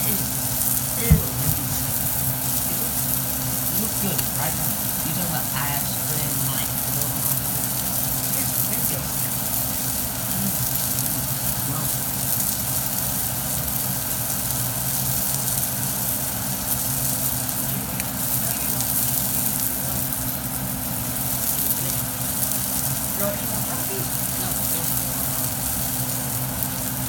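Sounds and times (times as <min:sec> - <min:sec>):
fish sizzling in a frying pan: 0:00.0 - 0:27.0.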